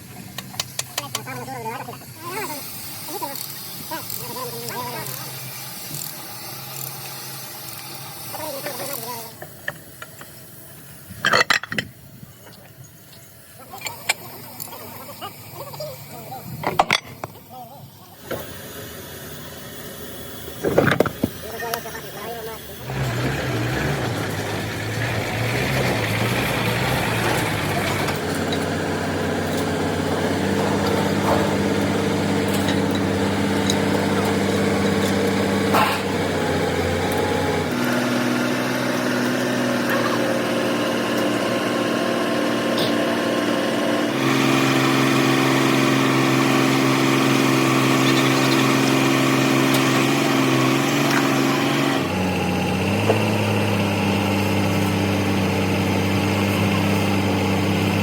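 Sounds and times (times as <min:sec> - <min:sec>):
motor humming with steady tones: 0:00.0 - 0:58.0.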